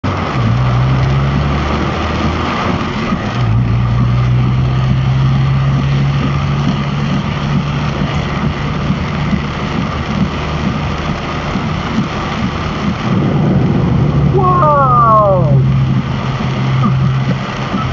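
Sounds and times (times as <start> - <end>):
car engine humming: 0.0 - 17.9
rain drumming on car roof: 0.0 - 17.9.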